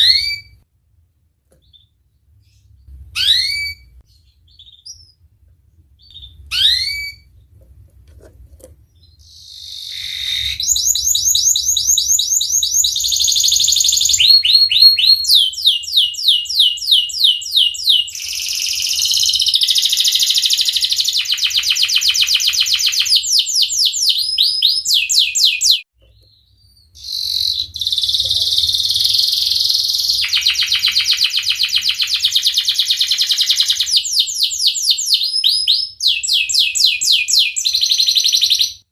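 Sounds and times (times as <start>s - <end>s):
canary chirp: 0.0s - 0.6s, 1.5s - 5.3s, 6.0s - 7.6s, 8.8s - 38.9s
canary singing trills: 0.0s - 0.6s, 1.6s - 5.2s, 6.0s - 7.5s, 8.9s - 38.9s.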